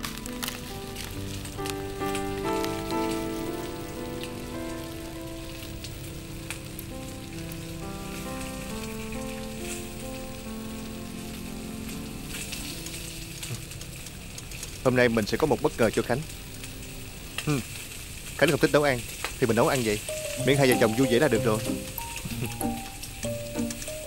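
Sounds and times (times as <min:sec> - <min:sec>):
soft background music: 0:00.0 - 0:18.2, 0:19.5 - 0:24.0
hot oil sizzling in wok: 0:00.0 - 0:24.0.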